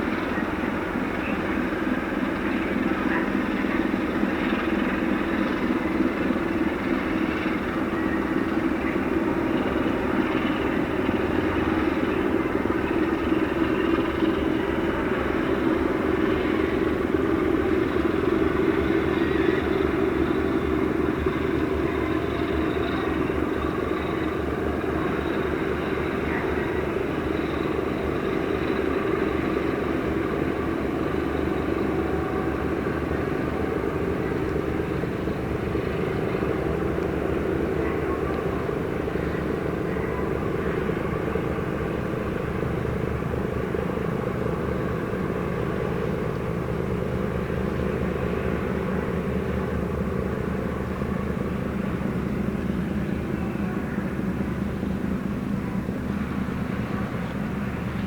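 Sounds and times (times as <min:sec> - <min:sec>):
low mechanical engine drone: 0:00.0 - 0:58.0.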